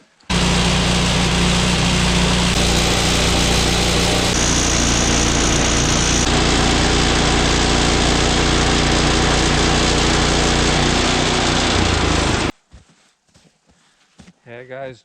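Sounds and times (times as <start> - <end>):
bandsaw blade cutting log: 0.3 - 12.5
gas engine at full throttle: 0.3 - 12.5.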